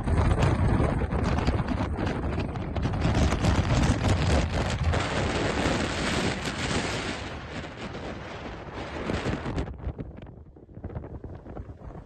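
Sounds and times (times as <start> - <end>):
gusting wind buffeting microphone: 0.0 - 12.0.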